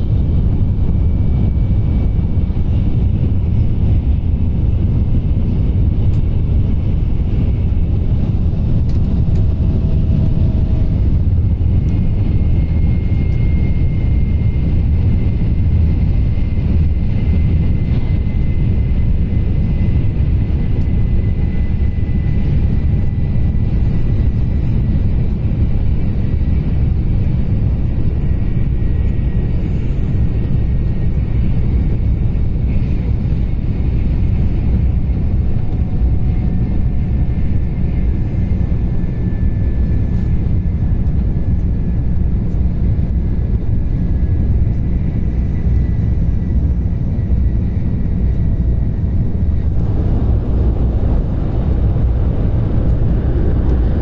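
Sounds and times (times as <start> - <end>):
train cabin low rumble: 0.0 - 54.0
faint high whine: 10.4 - 53.9.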